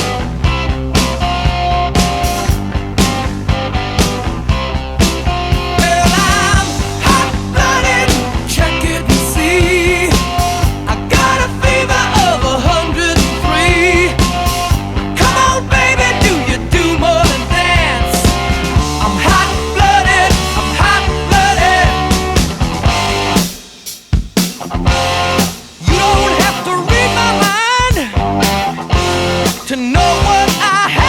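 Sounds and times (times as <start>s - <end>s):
rock music with singer: 0.0s - 31.0s.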